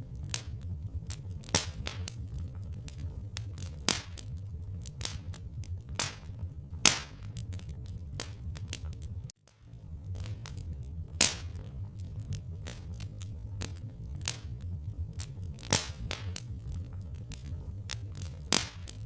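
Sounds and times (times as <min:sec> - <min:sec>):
low steady rumble: 0:00.0 - 0:19.0
wood fire crackling and popping: 0:00.0 - 0:19.0.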